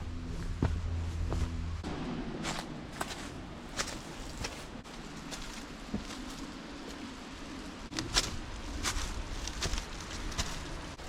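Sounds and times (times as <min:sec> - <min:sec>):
steady background hiss: 0:00.1 - 0:11.0
footsteps: 0:00.2 - 0:07.2, 0:07.9 - 0:11.0.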